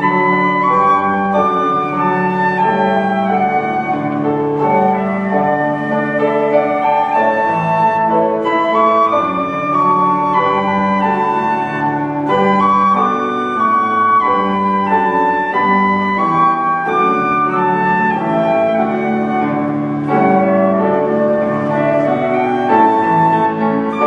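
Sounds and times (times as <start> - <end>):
flute-like line: 0.0 - 24.0
orchestra playing slow piece: 0.0 - 24.0
piano: 0.0 - 24.0.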